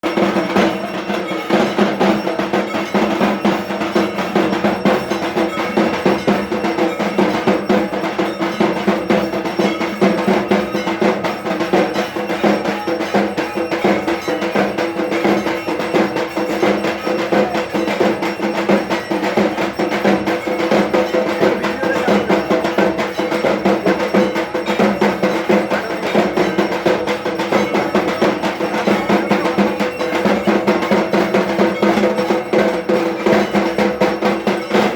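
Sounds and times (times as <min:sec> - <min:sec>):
drums beaten rapidly: 0:00.0 - 0:34.9
metal bells ringing: 0:00.0 - 0:34.9.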